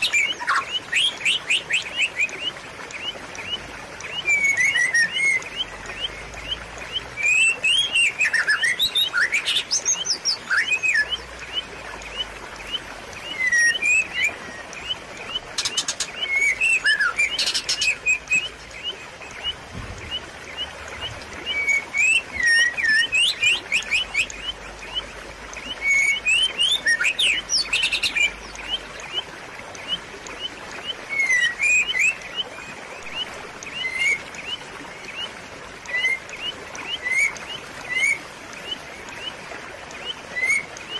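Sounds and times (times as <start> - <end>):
birds chirping: 0.0 - 40.9
running water: 0.0 - 40.9.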